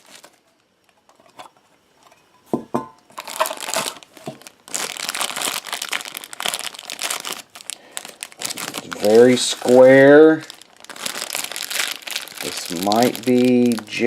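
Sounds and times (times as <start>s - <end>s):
packaging crinkling and rustling: 0.0s - 2.2s, 3.1s - 14.0s.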